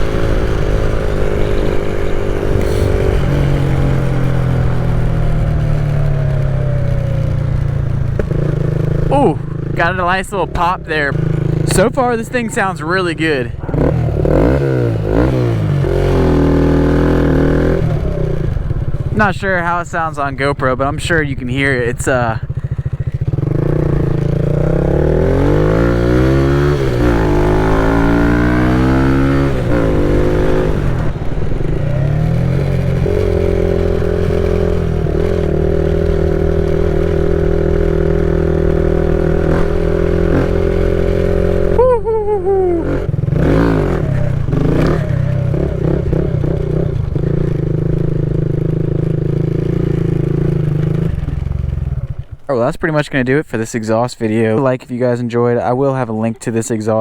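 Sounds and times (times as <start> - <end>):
motorcycle engine revving: 0.0 - 52.7.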